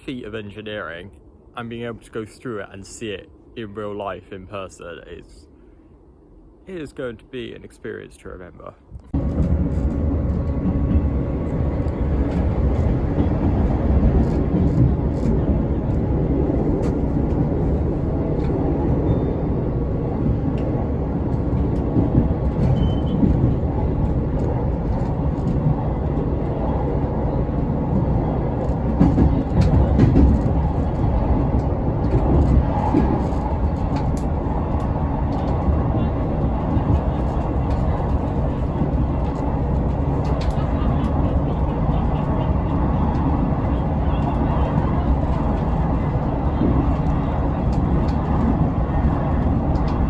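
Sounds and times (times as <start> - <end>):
train rumbling along track: 0.0 - 50.0
wheels clicking on rails: 9.1 - 50.0.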